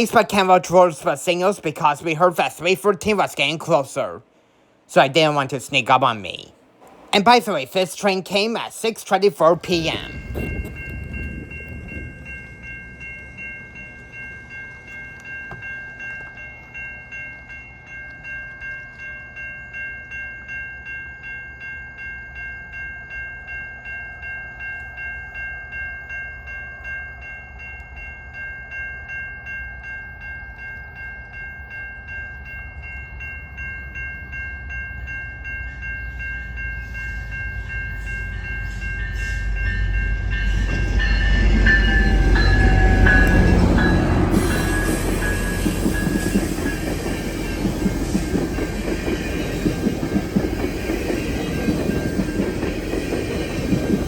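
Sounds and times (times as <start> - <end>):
level-crossing warning bell ringing: 0.0 - 4.2, 4.9 - 54.0
low train rumble: 0.0 - 54.0.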